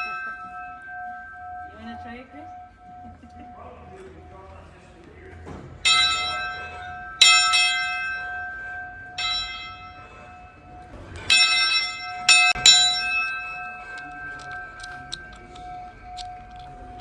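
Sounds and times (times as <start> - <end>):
locomotive bell clanging: 0.0 - 17.0.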